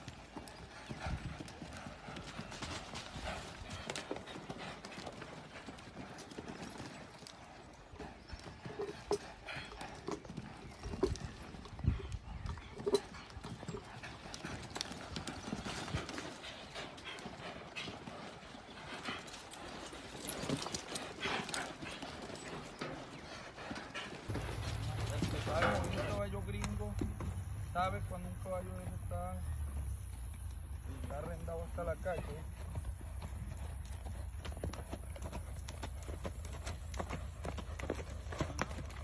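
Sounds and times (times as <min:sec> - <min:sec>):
horse hoofbeats on soft dirt: 0:00.0 - 0:39.0.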